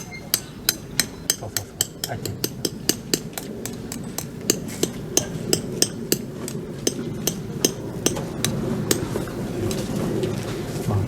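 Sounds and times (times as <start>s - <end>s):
hammer blows ringing: 0.0s - 9.2s.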